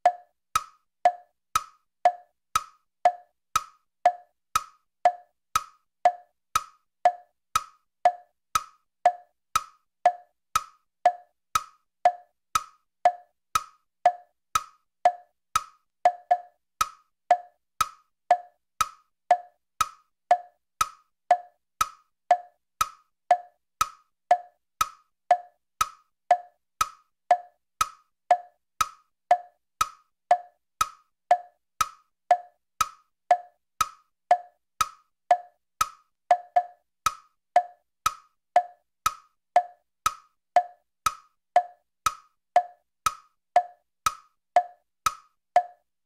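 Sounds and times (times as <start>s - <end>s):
clock ticking: 0.0s - 45.9s.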